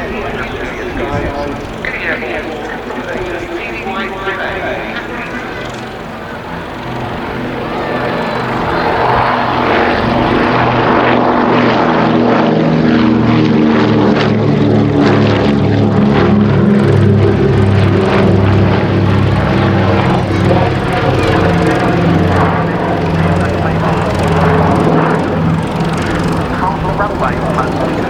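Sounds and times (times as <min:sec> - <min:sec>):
propeller aircraft engines droning: 0:00.0 - 0:28.0.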